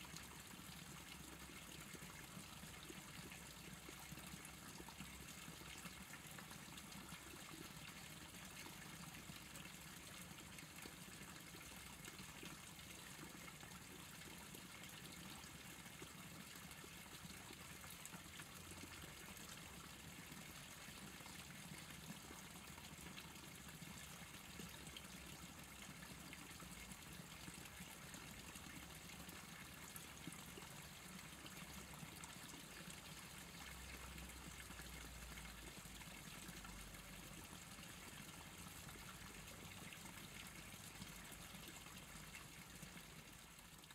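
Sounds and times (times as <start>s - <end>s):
small stream trickling: 0.0s - 43.9s.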